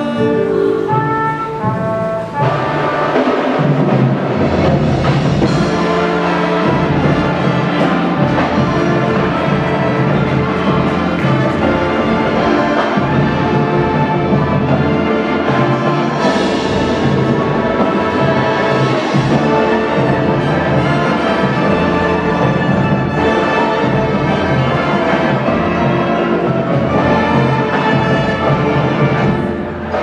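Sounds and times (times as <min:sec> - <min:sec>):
drums and timpani: 0:00.0 - 0:30.0
marching band brass chords: 0:00.0 - 0:30.0.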